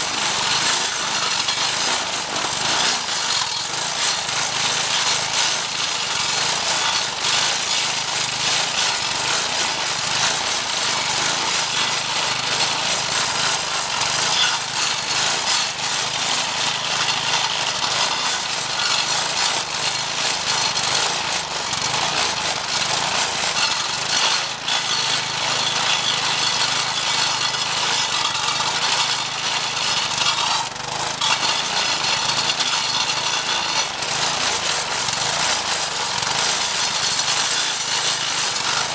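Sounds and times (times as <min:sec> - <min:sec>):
saw blade grinding into stump: 0:00.0 - 0:38.9
small engine running under load: 0:00.0 - 0:38.9.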